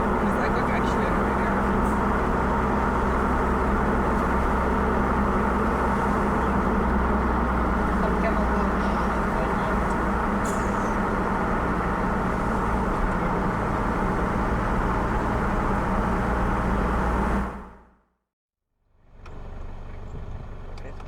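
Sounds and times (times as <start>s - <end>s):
car engine and road noise: 0.0s - 18.1s, 18.8s - 21.0s.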